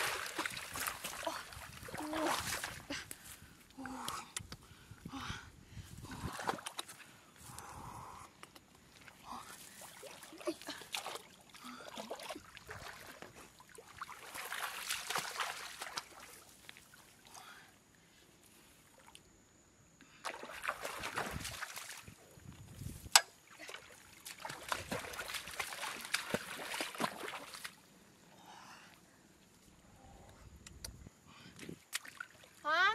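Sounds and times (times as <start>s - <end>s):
wading through muddy water: 0.0s - 19.2s, 20.1s - 29.0s.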